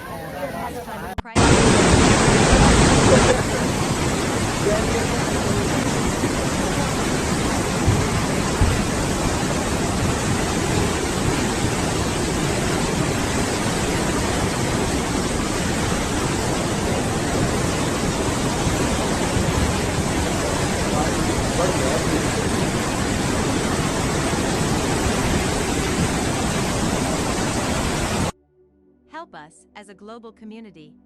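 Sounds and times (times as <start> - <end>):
floodwater rushing: 0.0 - 28.3.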